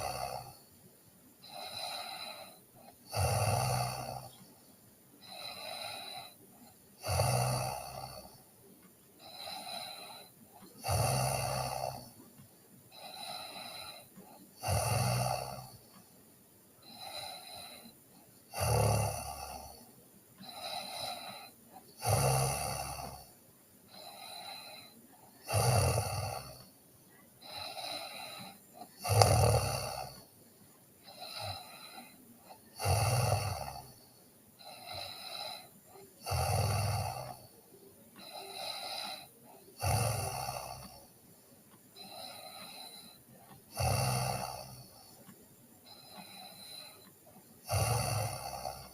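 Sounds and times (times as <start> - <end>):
girl snoring: 0.0 - 0.7, 1.4 - 4.6, 5.2 - 8.6, 9.2 - 12.3, 12.9 - 16.0, 16.8 - 26.8, 27.4 - 30.4, 31.0 - 41.3, 42.0 - 48.9
soft breathing: 0.0 - 48.9.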